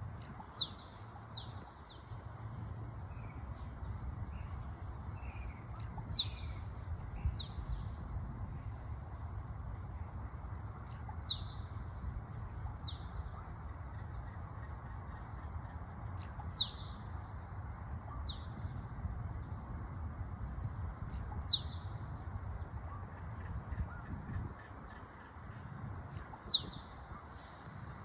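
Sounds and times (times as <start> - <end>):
low background rush: 0.0 - 28.0.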